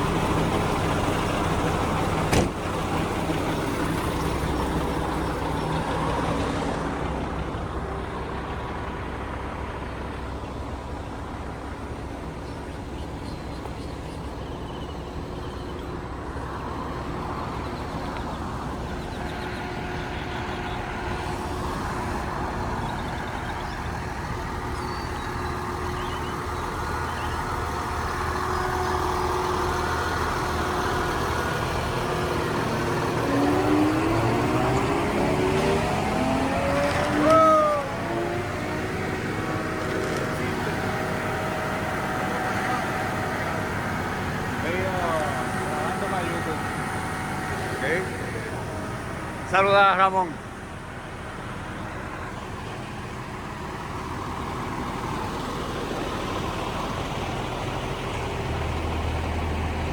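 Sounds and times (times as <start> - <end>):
diesel engine idling: 0.0 - 59.9
job-site noise: 0.0 - 59.9.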